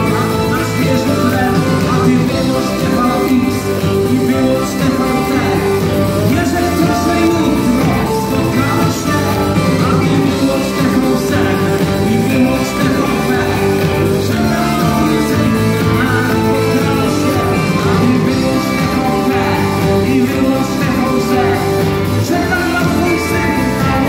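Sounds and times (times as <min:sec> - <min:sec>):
electric guitar: 0:00.0 - 0:24.0
live rock band: 0:00.0 - 0:24.0
male lead vocal: 0:00.0 - 0:24.0.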